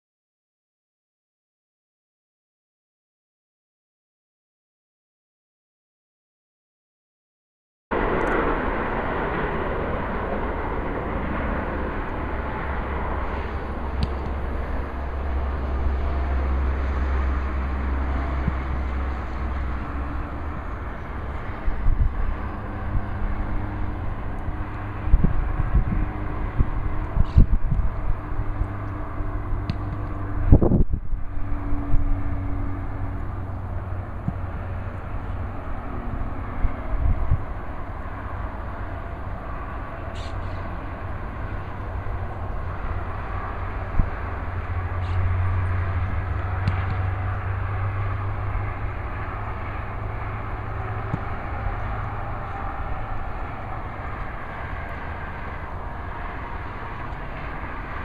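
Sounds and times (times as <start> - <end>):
highway traffic hum: 7.9 - 58.0
wind buffeting microphone: 7.9 - 58.0.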